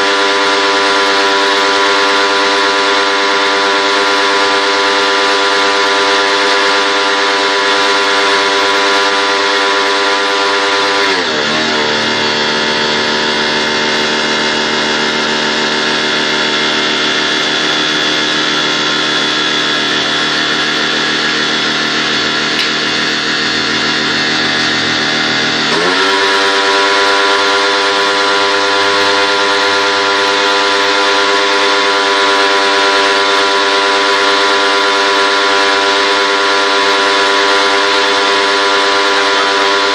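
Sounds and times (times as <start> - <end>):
pressure washer motor whining: 0.0 - 39.9.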